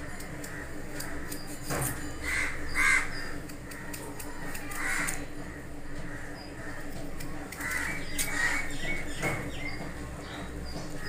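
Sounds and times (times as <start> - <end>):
steady low hum: 0.0 - 11.0
harsh bird calls: 0.4 - 11.0.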